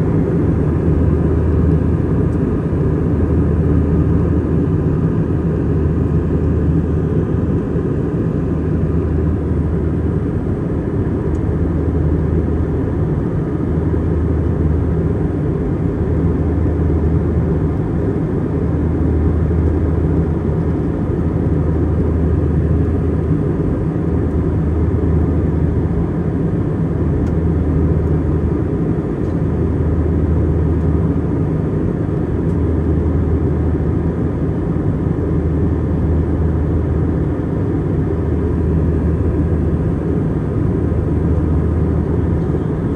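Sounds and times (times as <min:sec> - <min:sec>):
jet engines droning: 0:00.0 - 0:42.9.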